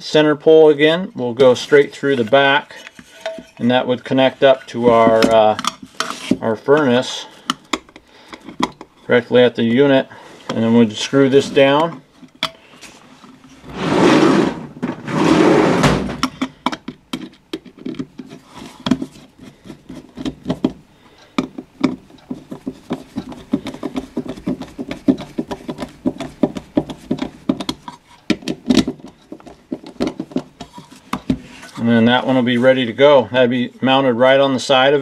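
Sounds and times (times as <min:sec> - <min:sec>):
scraping rubs: 0:01.2 - 0:16.4, 0:17.8 - 0:20.7, 0:22.1 - 0:33.8.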